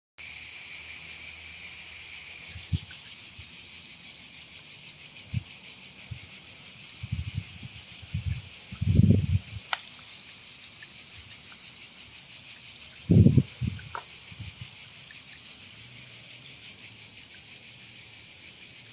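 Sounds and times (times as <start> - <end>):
cicadas droning: 0.2 - 18.9.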